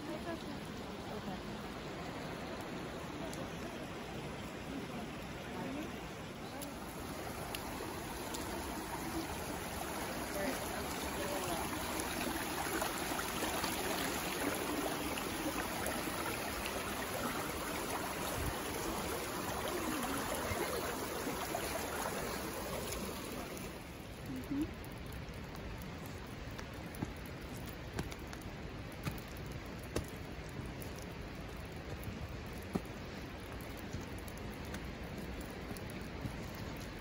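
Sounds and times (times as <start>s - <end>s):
water rushing over rocks: 0.0s - 37.0s.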